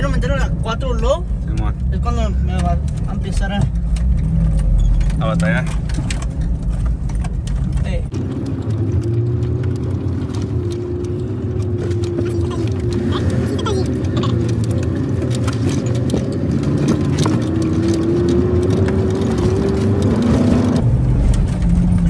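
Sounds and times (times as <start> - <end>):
vehicle engine drone: 0.0 - 22.0
interior rattles and clicks: 0.1 - 22.0.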